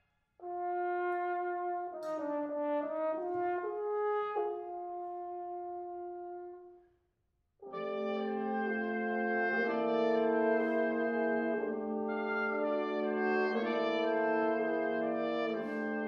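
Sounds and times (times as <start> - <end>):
french horn playing: 0.4 - 6.7, 7.6 - 16.0
second brass instrument: 0.4 - 6.7, 7.6 - 16.0.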